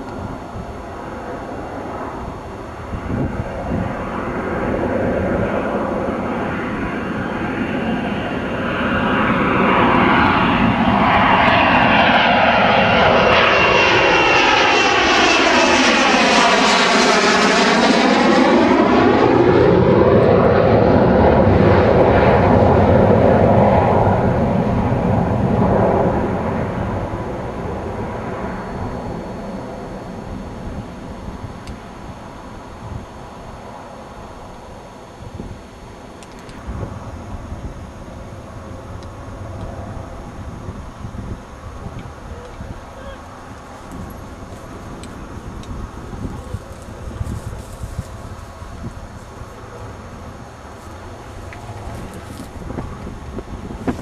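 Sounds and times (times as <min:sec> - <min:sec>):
aircraft flying overhead: 0:00.0 - 0:54.0.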